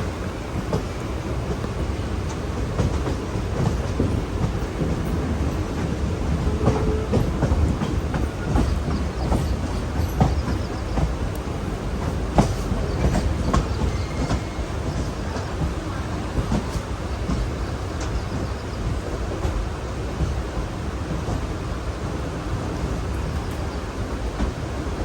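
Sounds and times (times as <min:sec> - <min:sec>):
train rumbling on board: 0:00.0 - 0:25.0.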